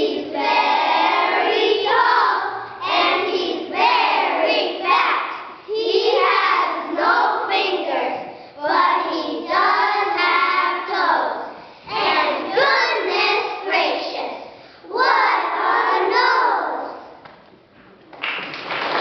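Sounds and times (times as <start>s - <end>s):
children reciting in a chant: 0.0s - 17.2s.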